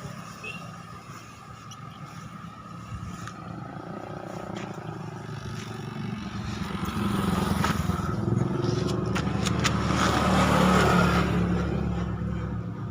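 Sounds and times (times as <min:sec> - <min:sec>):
truck engine running: 0:00.0 - 0:12.9.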